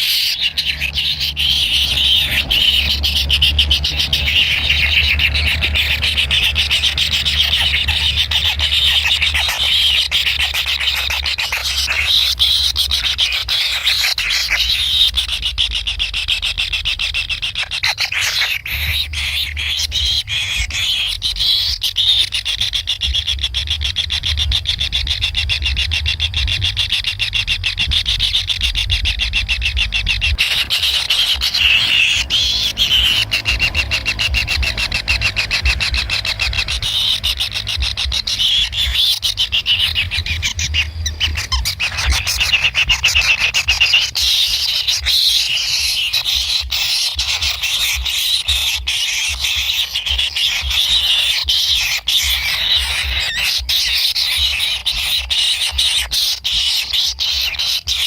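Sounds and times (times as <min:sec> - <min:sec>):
chicks begging calls: 0:00.0 - 0:58.0
low rumble: 0:00.3 - 0:55.9.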